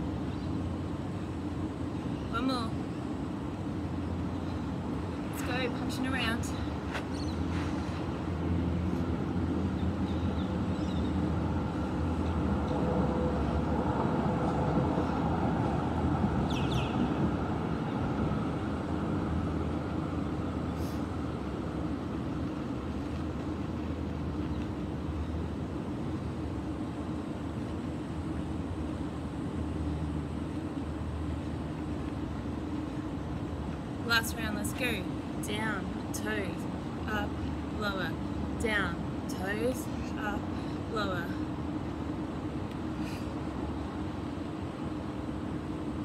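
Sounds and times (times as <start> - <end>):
urban background hum: 0.0 - 46.0.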